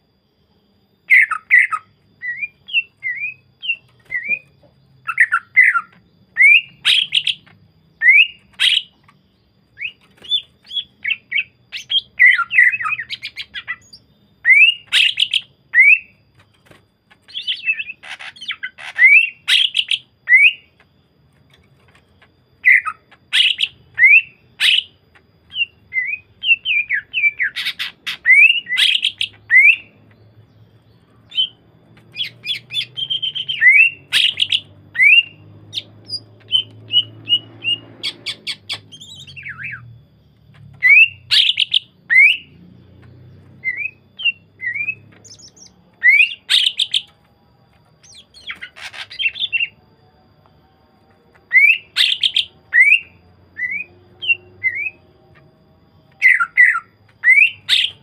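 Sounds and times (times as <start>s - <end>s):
bird singing whistled song: 0.2s - 58.0s.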